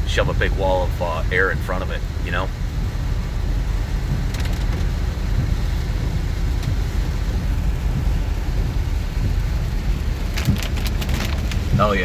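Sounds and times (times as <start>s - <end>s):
car road rumble: 0.0s - 12.0s
tyres hissing on wet road: 0.0s - 12.0s.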